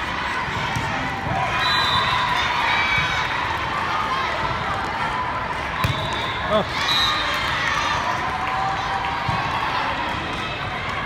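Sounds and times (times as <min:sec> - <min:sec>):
crowd hubbub: 0:00.0 - 0:11.0.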